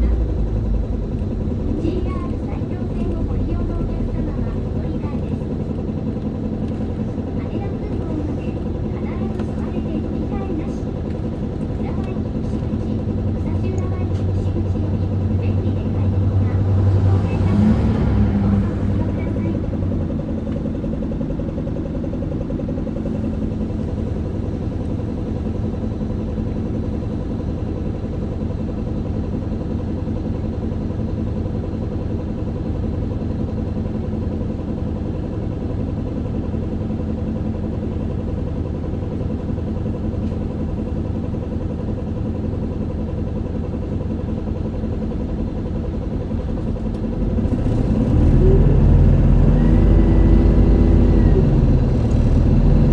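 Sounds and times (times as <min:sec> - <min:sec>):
bus engine drone from inside: 0:00.0 - 0:52.9.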